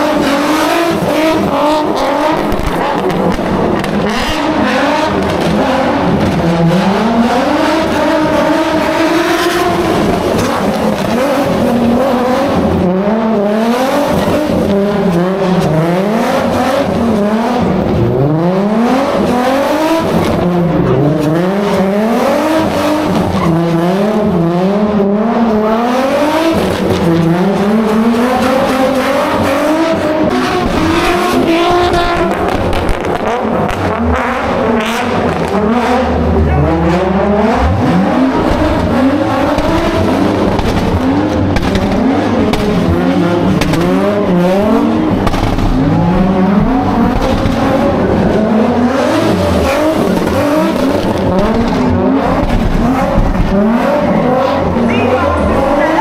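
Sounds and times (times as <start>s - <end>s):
car engine revving hard: 0.0s - 56.0s.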